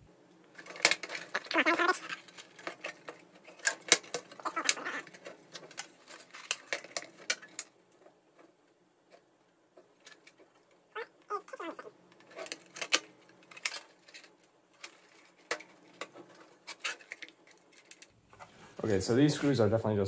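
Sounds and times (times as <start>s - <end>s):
hands handling cables and parts: 0.2s - 19.6s.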